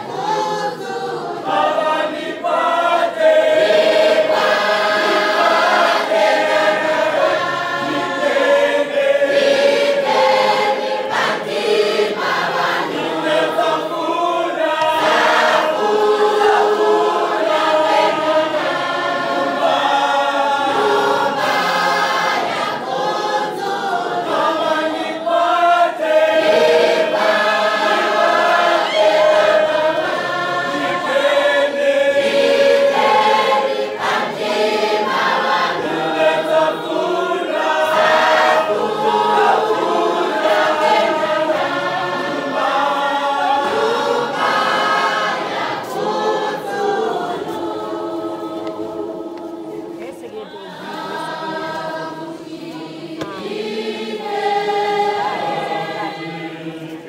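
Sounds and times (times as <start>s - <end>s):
choir singing gospel song: 0.0s - 57.0s.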